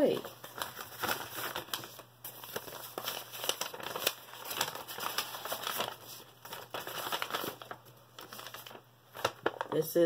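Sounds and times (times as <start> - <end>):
paper rustling and crinkling: 0.0 - 9.8.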